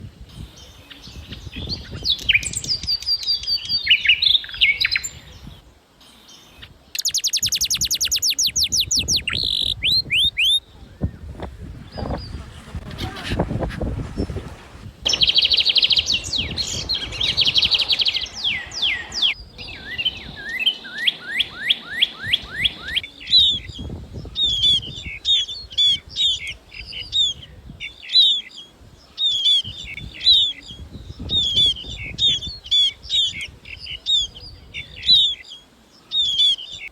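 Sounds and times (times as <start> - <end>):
small birds singing: 0.0 - 36.9.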